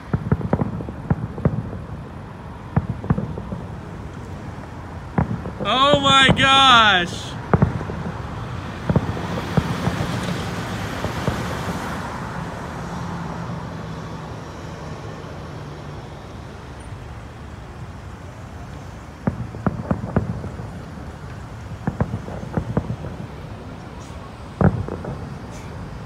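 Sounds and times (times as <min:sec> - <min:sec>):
distant fireworks bangs: 0:00.0 - 0:17.3, 0:17.9 - 0:26.0
road traffic hum: 0:00.0 - 0:26.0.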